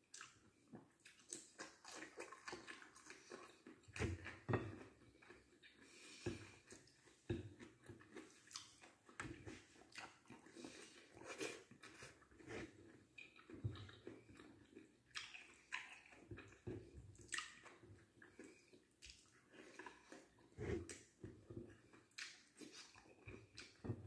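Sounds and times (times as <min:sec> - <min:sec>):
chewing with wet mouth smacks: 0:00.0 - 0:23.9.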